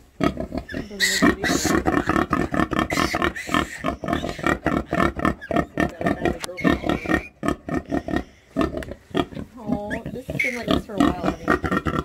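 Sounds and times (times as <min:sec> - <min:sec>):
pigs grunting: 0:00.2 - 0:12.0.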